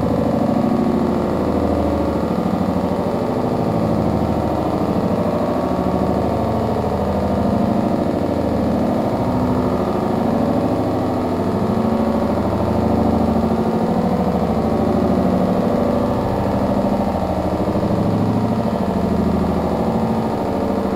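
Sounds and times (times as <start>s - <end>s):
rough electronic drone: 0.0s - 20.9s.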